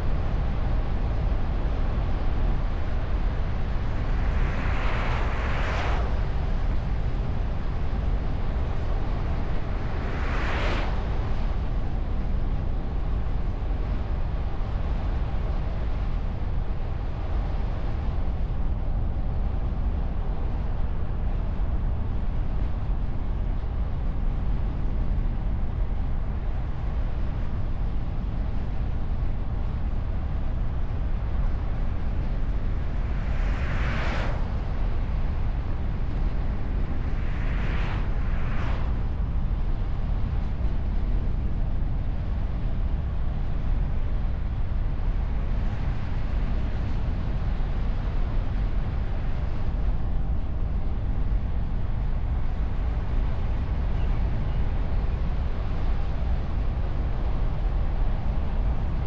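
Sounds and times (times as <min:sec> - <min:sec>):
wind and road noise rumble: 0:00.0 - 0:59.0.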